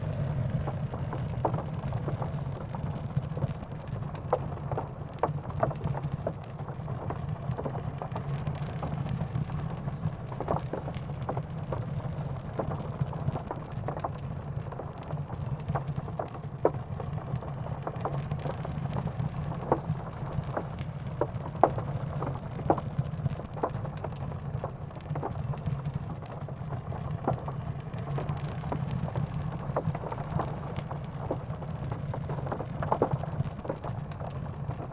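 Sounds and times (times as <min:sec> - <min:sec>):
steady rain: 0:00.0 - 0:34.9
wood fire crackling: 0:00.0 - 0:34.9.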